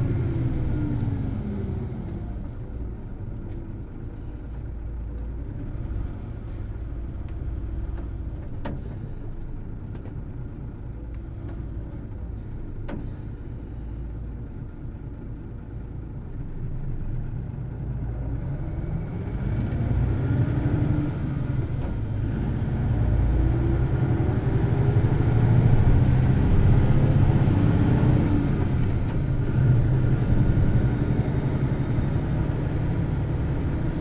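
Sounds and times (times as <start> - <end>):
bus engine accelerating: 0.0 - 34.0.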